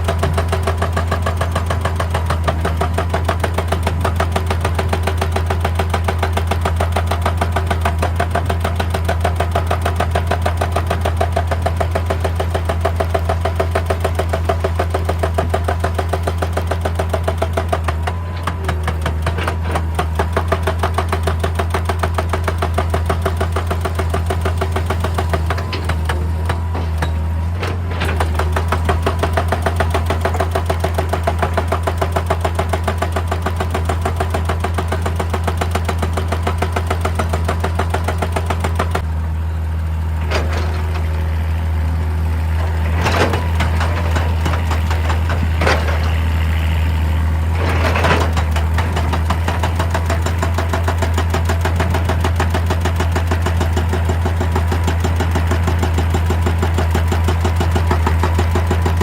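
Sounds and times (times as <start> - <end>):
hydraulic rock breaker hammering: 0.0 - 39.2, 40.1 - 59.0
excavator diesel engine running: 0.0 - 59.0.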